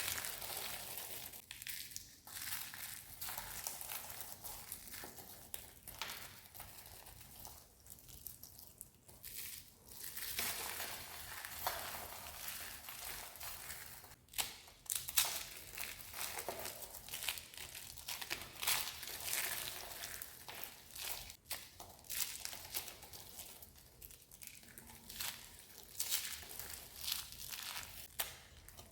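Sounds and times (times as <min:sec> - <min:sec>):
dry soap crunching: 0:00.0 - 0:28.9.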